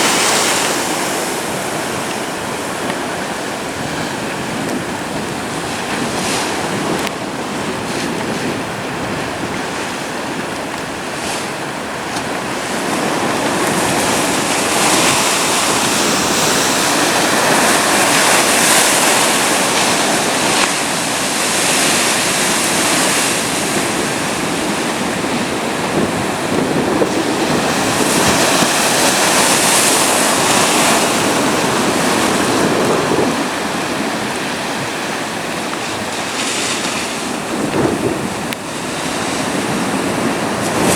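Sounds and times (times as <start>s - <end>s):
surf breaking on beach: 0.0s - 40.9s.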